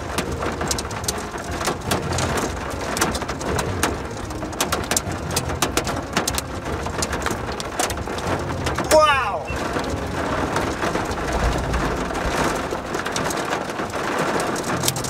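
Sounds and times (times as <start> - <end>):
raindrops ticking: 0.0 - 15.0.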